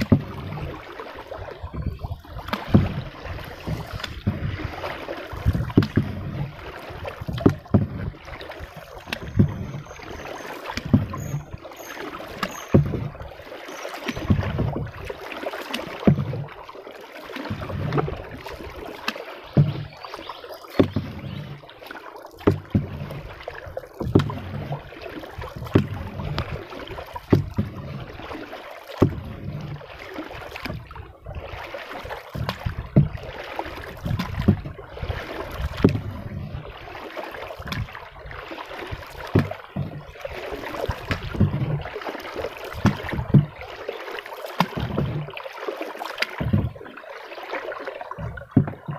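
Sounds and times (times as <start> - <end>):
paddle knocking hull: 0.0 - 48.9
paddle swishing water: 0.0 - 48.9.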